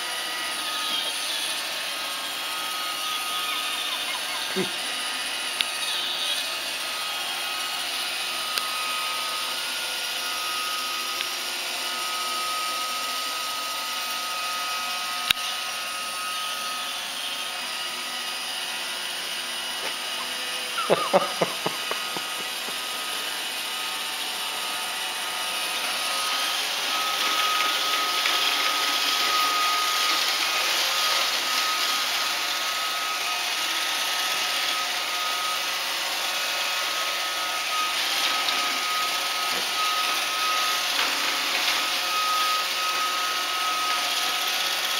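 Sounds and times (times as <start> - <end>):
robot vacuum whirring: 0.0 - 44.9.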